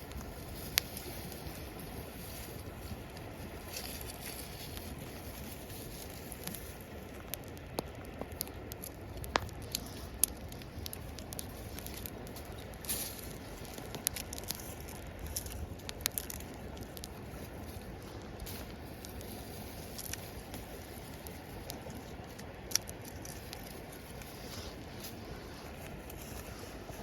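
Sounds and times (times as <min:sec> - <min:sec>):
campfire crackling and popping: 0:00.0 - 0:27.0
steady background hiss: 0:00.0 - 0:27.0.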